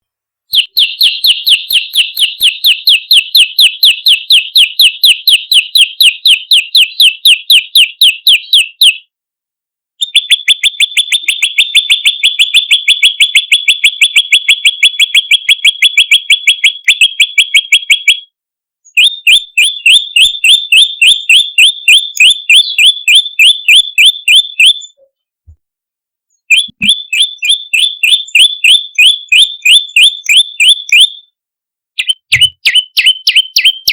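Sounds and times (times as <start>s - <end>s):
songbird sharp rapid chirps: 0.5s - 9.1s, 10.0s - 25.1s, 26.3s - 31.3s, 32.0s - 33.9s.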